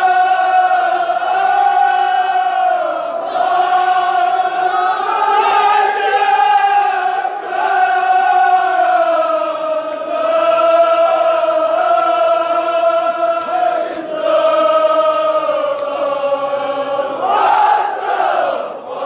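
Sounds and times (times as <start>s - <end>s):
group of men chanting: 0.0s - 19.0s.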